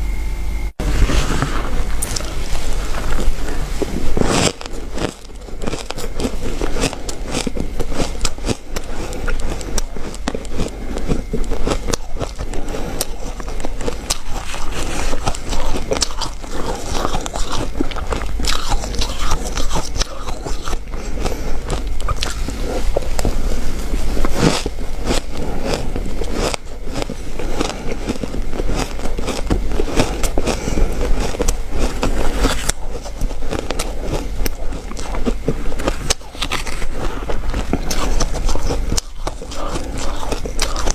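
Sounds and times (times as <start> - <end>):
person chewing ice: 1.8 - 40.9.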